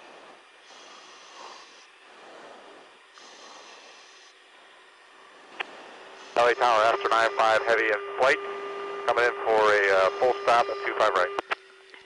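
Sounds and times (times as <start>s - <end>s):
radio feed hiss: 0.0s - 11.6s.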